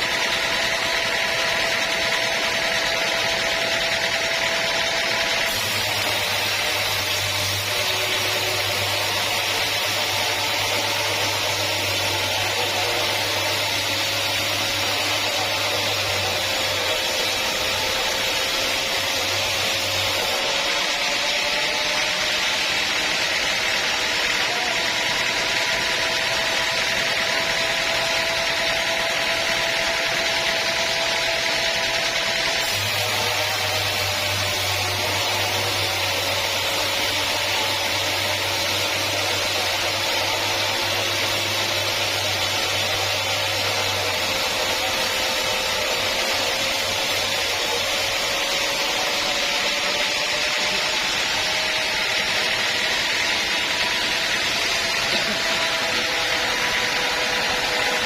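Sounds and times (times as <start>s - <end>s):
saw cutting through log: 0.0s - 58.0s.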